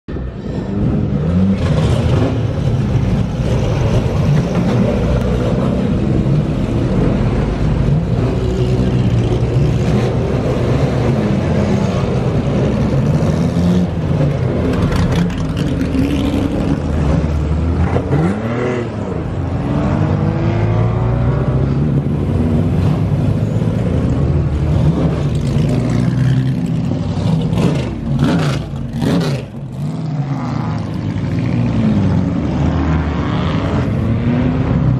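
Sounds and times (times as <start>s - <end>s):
racing car engines revving: 0.1s - 34.9s.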